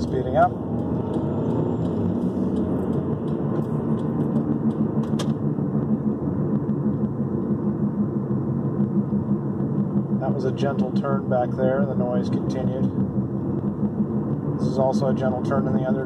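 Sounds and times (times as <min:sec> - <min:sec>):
rhythmic wheel thrumming: 0:00.0 - 0:16.0
road rumble: 0:00.0 - 0:16.0.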